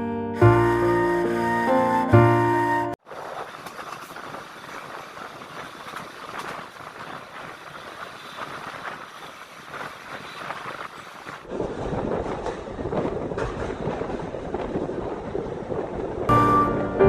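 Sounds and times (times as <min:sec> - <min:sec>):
train rumbling along rails: 0:02.5 - 0:17.0
wheels clicking on rails: 0:03.1 - 0:17.0.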